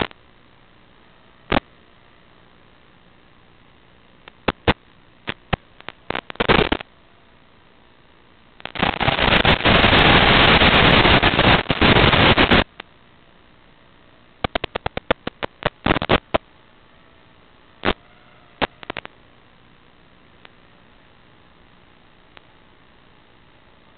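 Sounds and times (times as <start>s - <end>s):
radio static hiss: 0.0s - 23.9s
sharp static clicks: 0.0s - 23.9s.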